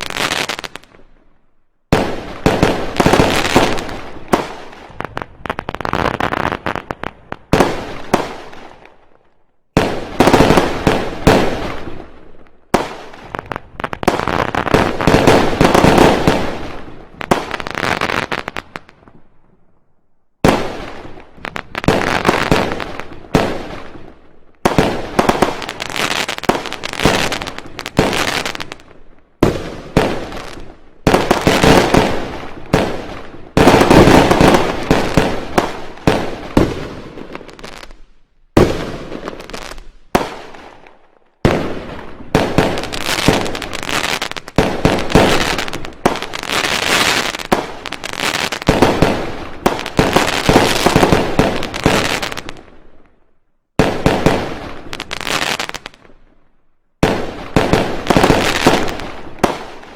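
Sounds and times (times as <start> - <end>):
fireworks crackling: 0.0 - 1.1, 1.8 - 19.2, 20.4 - 53.1, 53.8 - 56.2, 57.0 - 59.9
fireworks bangs: 1.8 - 19.3, 20.4 - 53.1, 53.8 - 56.2, 57.0 - 59.9.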